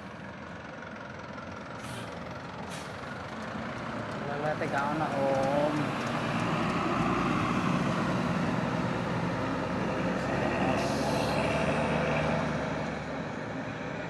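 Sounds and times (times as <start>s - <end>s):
heavy vehicle engine passing: 0.0s - 14.0s.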